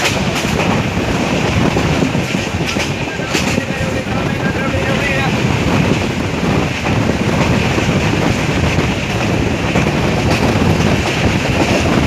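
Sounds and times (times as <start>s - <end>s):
low rumble of train coach: 0.0s - 12.0s
wind buffeting microphone: 0.0s - 12.0s.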